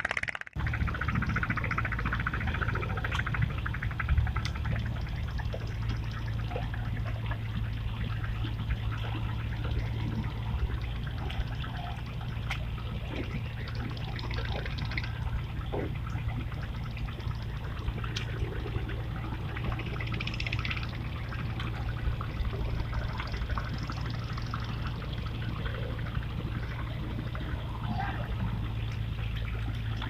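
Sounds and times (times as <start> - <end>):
river water trickling and splashing: 0.6 - 30.0
steady low hum: 0.6 - 30.0.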